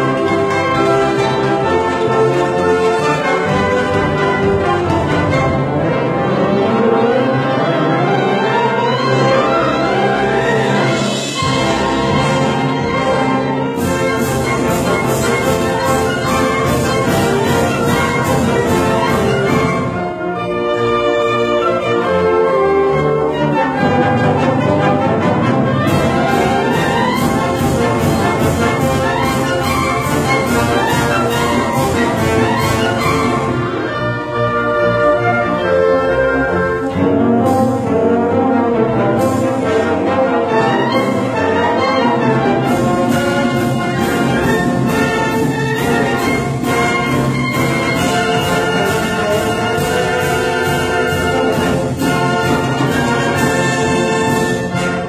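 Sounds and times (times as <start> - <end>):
brass-led wind band music: 0.0 - 55.0.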